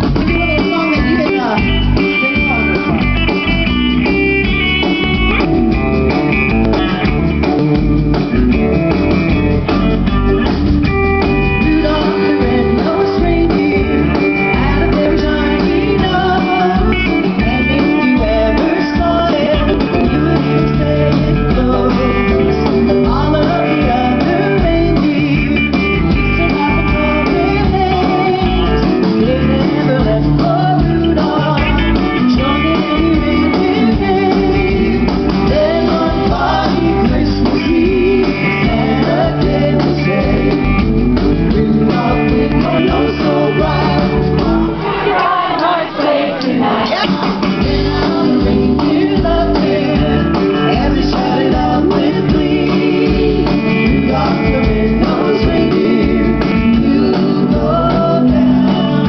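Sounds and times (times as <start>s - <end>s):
live band music: 0.0s - 59.0s
person singing: 11.2s - 59.0s.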